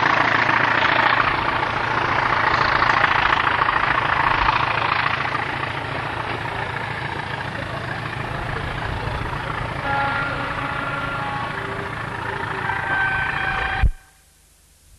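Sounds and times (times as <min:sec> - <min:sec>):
train wheels rumbling on rails: 0:00.0 - 0:14.1
locomotive engine running: 0:00.0 - 0:14.4.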